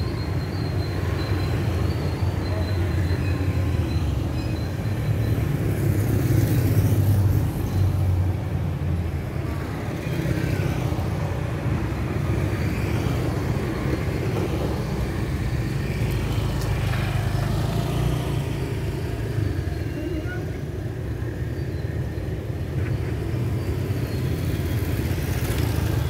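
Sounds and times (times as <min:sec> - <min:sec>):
street traffic passing: 0:00.0 - 0:26.0.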